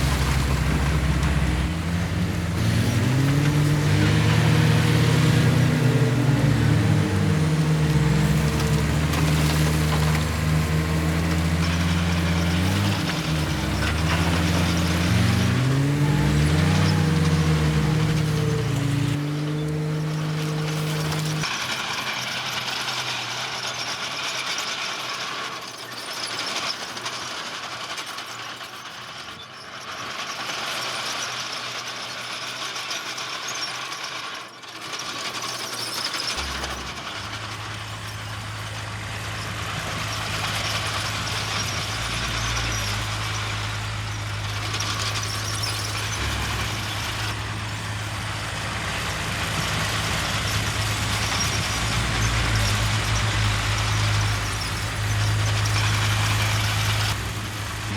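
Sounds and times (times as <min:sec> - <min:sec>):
low diesel engine hum: 0:00.0 - 0:25.2, 0:35.9 - 0:57.9
machinery clattering and grinding: 0:00.0 - 0:57.9.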